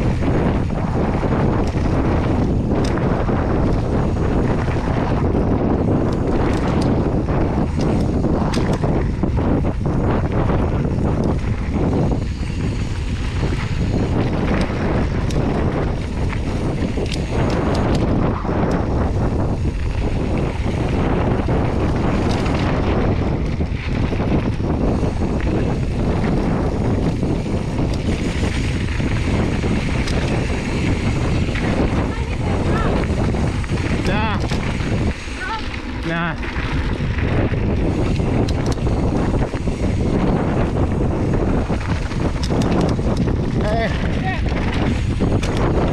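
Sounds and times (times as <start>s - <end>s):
bike clicks and knocks: 0.0s - 45.9s
bike tyres on gravel trail: 0.0s - 45.9s
wind buffeting microphone: 0.0s - 45.9s.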